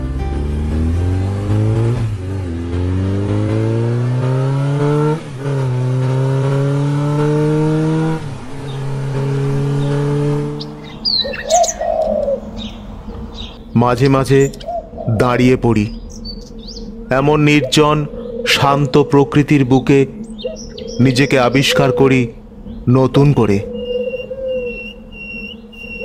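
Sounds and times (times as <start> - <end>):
motorcycle engine accelerating: 0.0 - 18.4, 19.0 - 26.0
birds chirping: 0.7 - 26.0.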